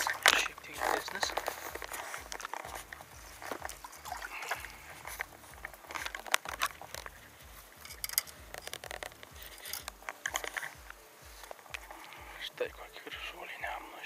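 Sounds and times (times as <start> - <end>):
clicks taps and rustles of handling: 0.0 - 12.2.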